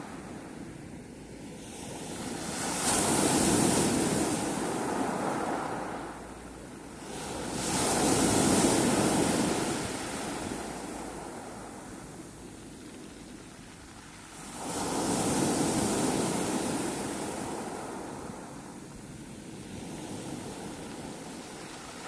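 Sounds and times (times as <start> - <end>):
sea waves breaking on shore: 0.0 - 12.4, 14.1 - 22.0.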